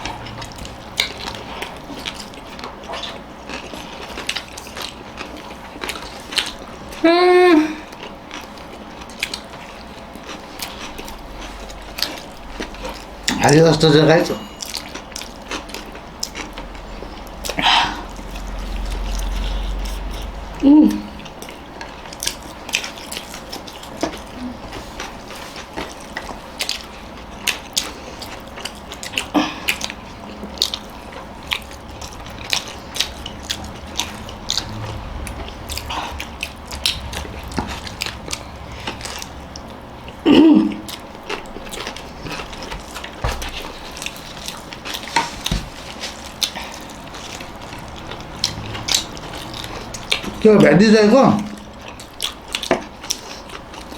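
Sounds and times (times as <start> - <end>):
people chewing food: 0.0 - 53.9.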